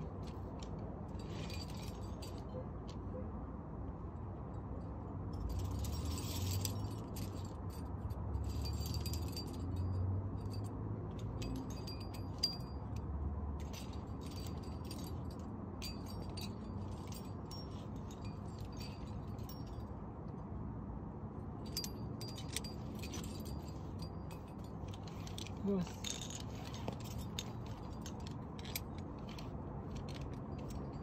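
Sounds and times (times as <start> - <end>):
climbing gear jingling and clinking: 0.0 - 3.1, 4.8 - 20.4, 21.5 - 31.0.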